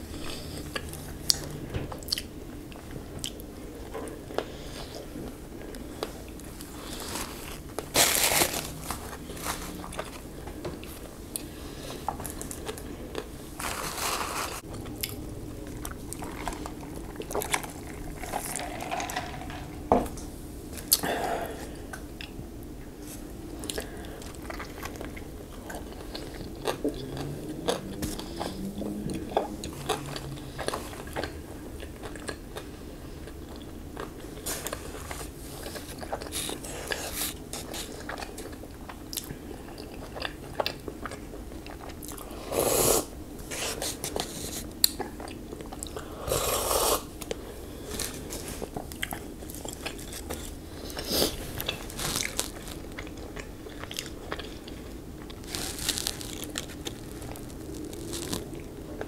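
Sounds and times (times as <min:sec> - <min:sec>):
close chewing and biting: 0:00.0 - 0:18.8, 0:23.6 - 0:42.3, 0:47.2 - 0:59.0.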